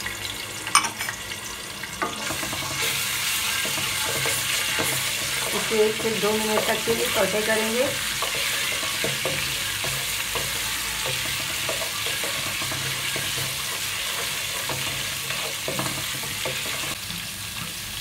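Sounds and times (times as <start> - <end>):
paste and spices sizzling in oil: 0.0 - 18.0
wooden spatula scraping a pot: 2.0 - 17.0.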